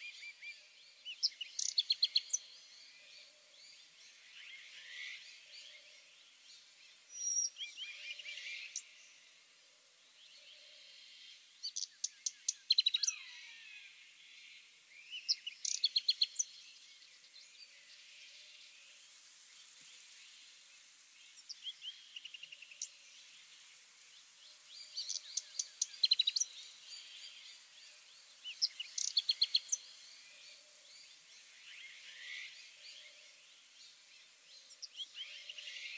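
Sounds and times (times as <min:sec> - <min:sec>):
faint steady hiss: 0:00.0 - 0:35.9
songbird chirping: 0:00.0 - 0:35.9.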